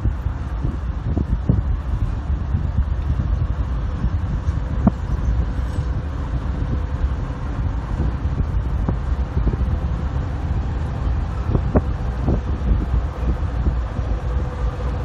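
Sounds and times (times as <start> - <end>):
diesel locomotives rumbling: 0.0 - 15.0
wind buffeting microphone: 0.0 - 15.0.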